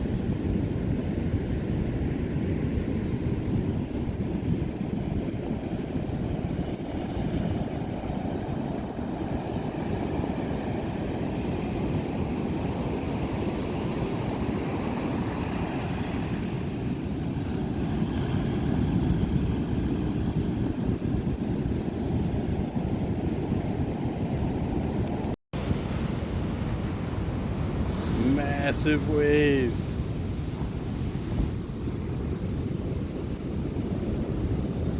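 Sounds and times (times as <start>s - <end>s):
wind buffeting microphone: 0.0s - 34.9s
ocean waves breaking: 3.9s - 34.9s.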